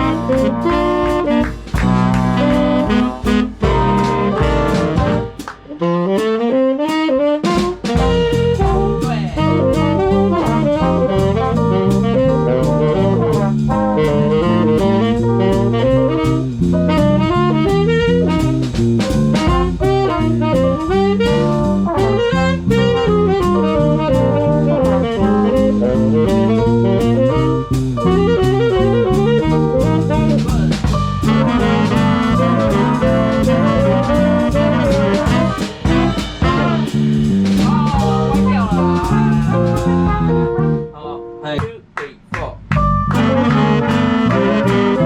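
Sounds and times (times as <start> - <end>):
swing band playing jazz: 0.0 - 41.4, 42.5 - 45.0.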